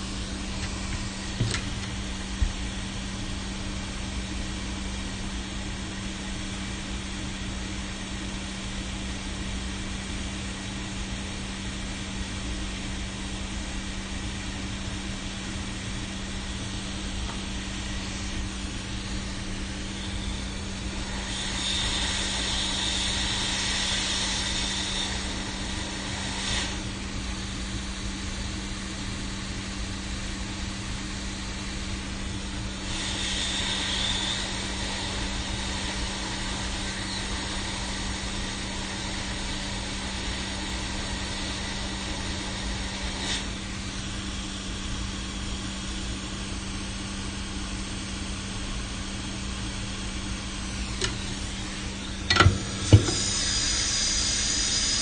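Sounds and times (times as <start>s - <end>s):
hot air blower hissing: 0.0s - 55.0s.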